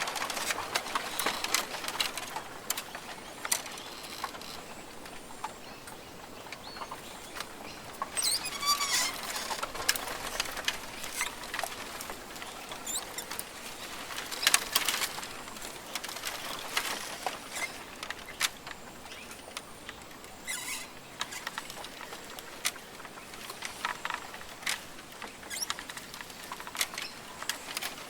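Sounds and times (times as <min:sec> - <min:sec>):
clicks and crackles: 0:00.0 - 0:28.0
rustling patter: 0:00.0 - 0:28.0.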